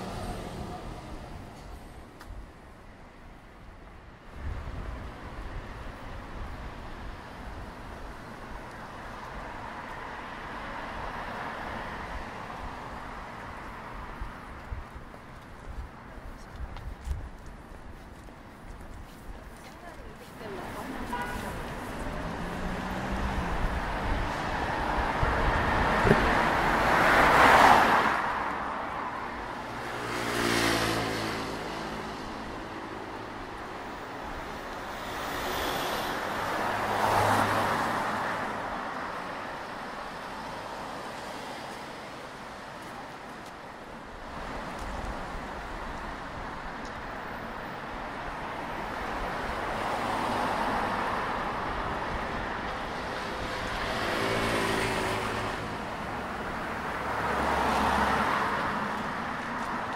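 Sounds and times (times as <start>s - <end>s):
cars passing: 0.0s - 59.9s
steady traffic noise: 0.0s - 59.9s.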